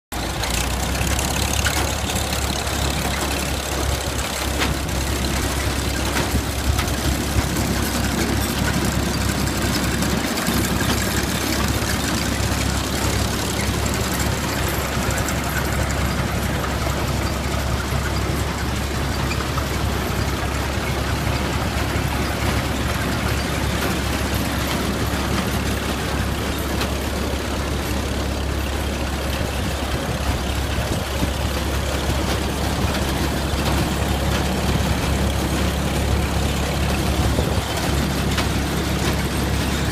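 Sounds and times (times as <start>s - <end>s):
engine running steadily: 0.1s - 39.9s.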